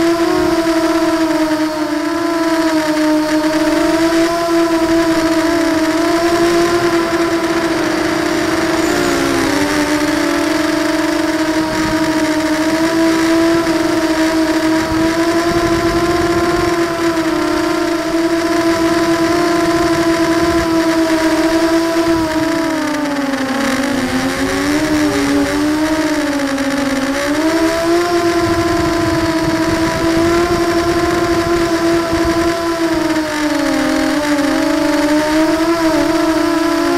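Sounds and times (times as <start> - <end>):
quadcopter motors whining: 0.0 - 36.9.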